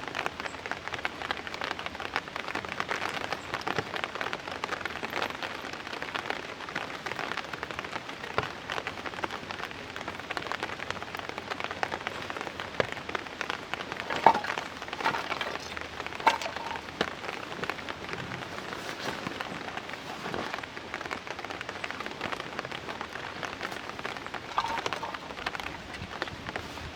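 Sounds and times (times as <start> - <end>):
steady rain: 0.0 - 26.9.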